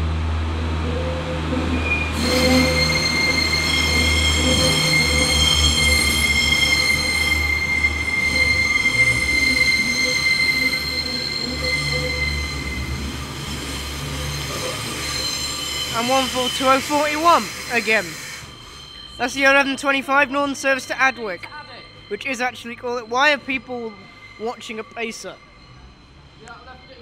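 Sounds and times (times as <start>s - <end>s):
train wheels squealing: 1.8s - 27.0s.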